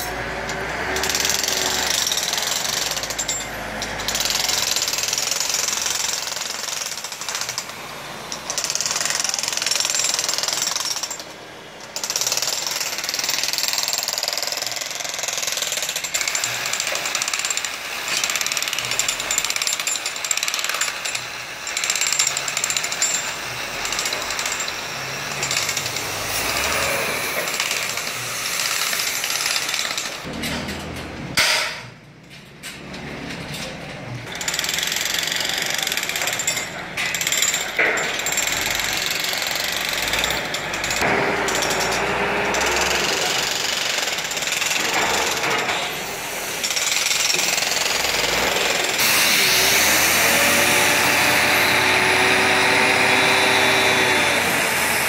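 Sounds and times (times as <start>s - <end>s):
demolition hammer chipping concrete: 0.9s - 11.3s, 11.9s - 30.5s, 34.3s - 55.0s.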